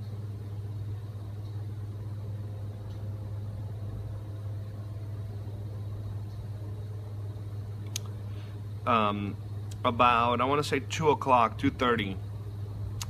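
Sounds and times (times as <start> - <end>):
hvac equipment humming: 0.0 - 13.0.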